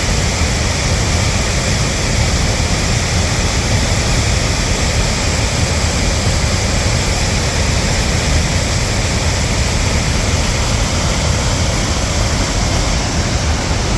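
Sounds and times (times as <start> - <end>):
floodwater rushing roar: 0.0 - 13.9.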